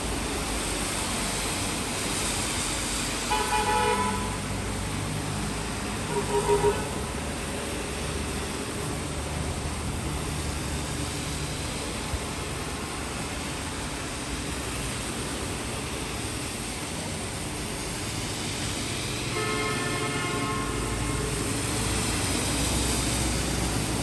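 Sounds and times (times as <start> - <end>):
distant traffic rumble: 0.0 - 24.0
steady rain hiss: 0.0 - 24.0.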